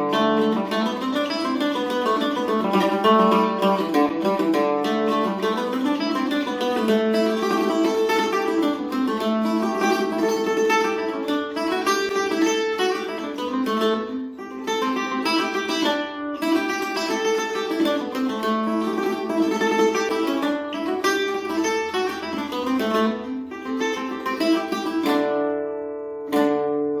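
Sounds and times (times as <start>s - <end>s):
mandolin picking a reel melody: 0.0s - 27.0s.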